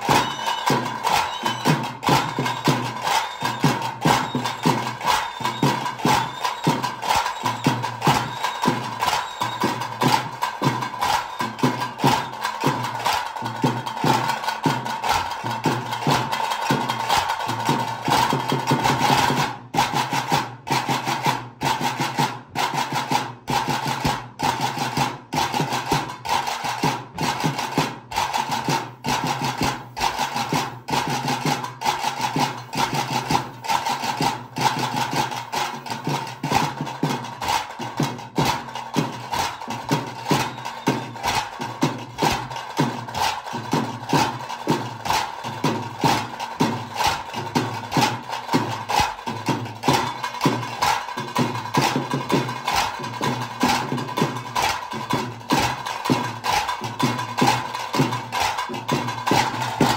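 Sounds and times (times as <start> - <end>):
fast drum beat: 0.0 - 59.9.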